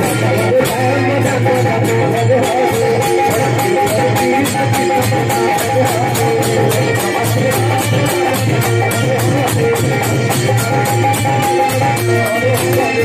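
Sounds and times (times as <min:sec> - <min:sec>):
fast percussion beat: 0:00.0 - 0:13.0
folk band instrumental: 0:00.0 - 0:13.0.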